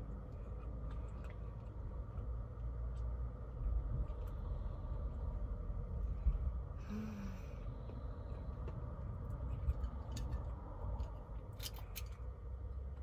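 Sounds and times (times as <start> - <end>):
person chewing food: 0.0 - 6.6, 7.4 - 12.3
low steady hum: 0.0 - 13.0.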